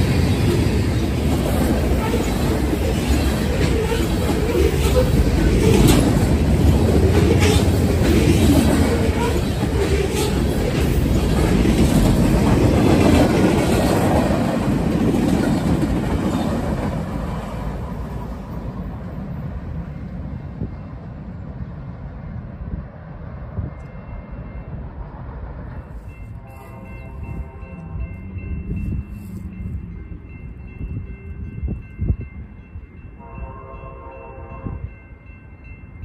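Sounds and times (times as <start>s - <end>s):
train passing by: 0.0s - 36.0s.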